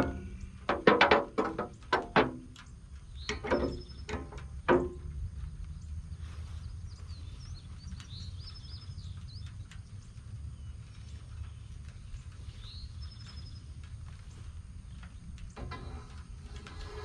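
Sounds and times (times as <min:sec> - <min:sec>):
birds chirping: 0:00.0 - 0:17.0
steady low rumble: 0:02.6 - 0:17.0.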